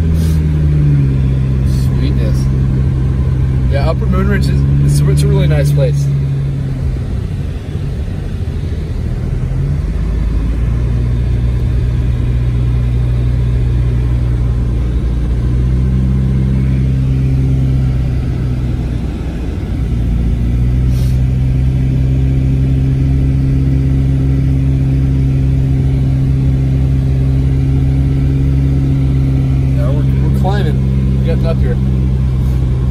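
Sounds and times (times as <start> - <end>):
car engine hum: 0.0 - 32.9
road noise on wet road: 0.0 - 32.9.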